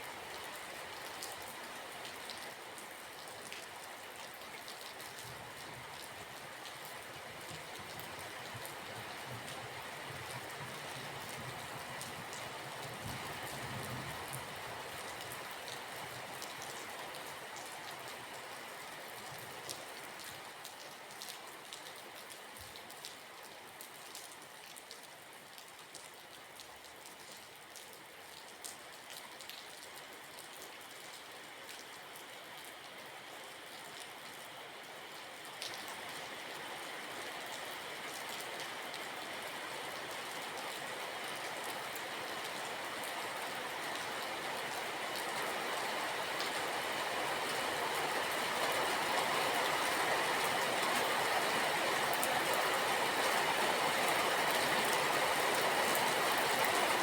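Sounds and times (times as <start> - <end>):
steady rainfall with drops tapping: 0.0 - 57.0.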